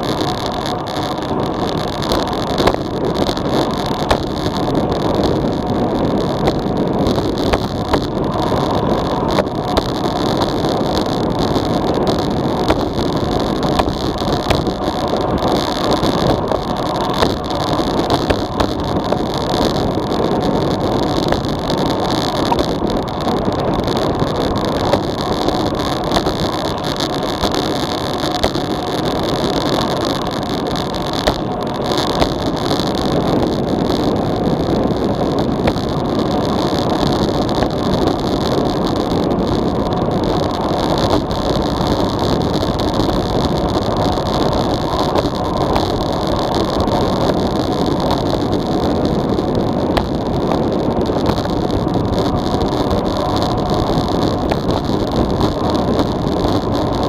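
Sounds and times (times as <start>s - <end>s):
tyre and road noise: 0.0s - 57.0s
wind rushing over microphone: 0.0s - 57.0s.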